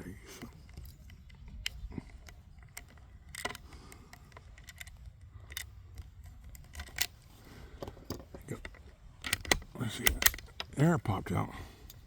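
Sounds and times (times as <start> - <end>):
rifle bolt metallic clicks: 0.3 - 7.2, 8.0 - 10.8.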